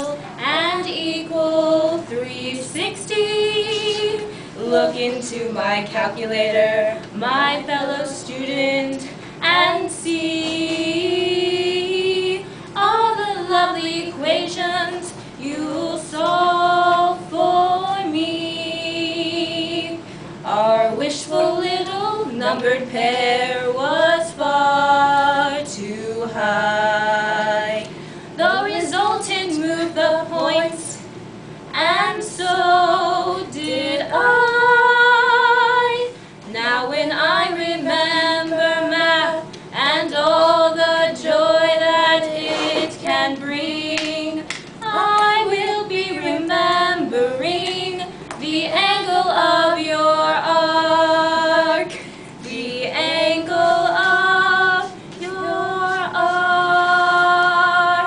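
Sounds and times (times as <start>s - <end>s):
women singing unaccompanied: 0.0s - 58.0s.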